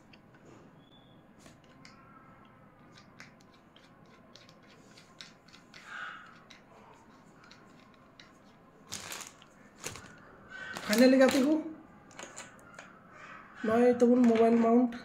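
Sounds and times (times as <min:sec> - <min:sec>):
plastic parts clicking: 0:01.4 - 0:12.9, 0:14.1 - 0:14.7.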